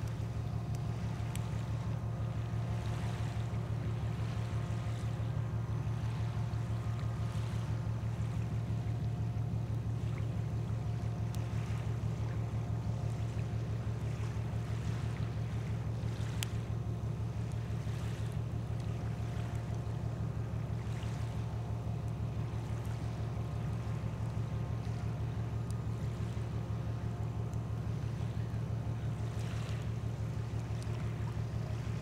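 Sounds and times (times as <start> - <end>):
boat engine running: 0.0 - 32.0
faint hum: 0.0 - 32.0.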